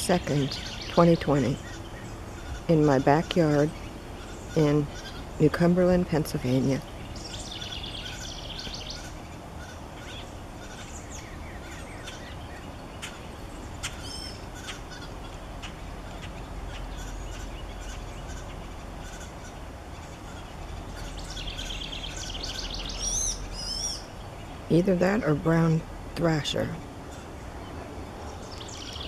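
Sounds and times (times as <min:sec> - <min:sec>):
songbird chattering and chirping: 0:00.0 - 0:29.0.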